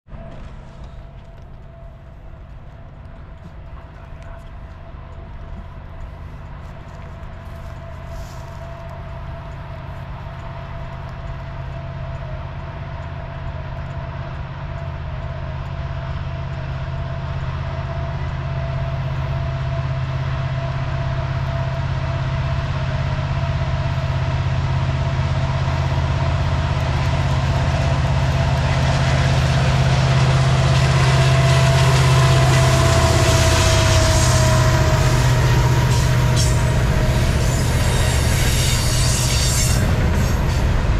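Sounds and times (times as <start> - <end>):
diesel locomotive engine rumble: 0.0 - 40.9
freight cars rolling past: 0.1 - 40.9.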